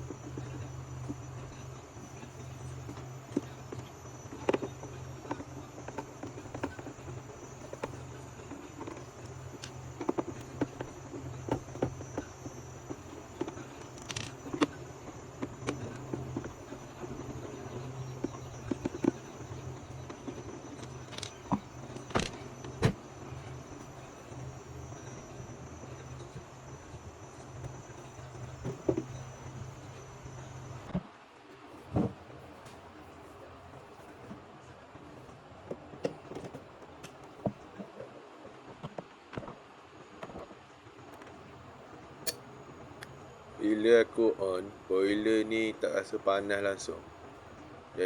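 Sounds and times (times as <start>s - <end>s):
steady low hum: 0.0s - 38.7s
faint high whine: 0.0s - 48.0s.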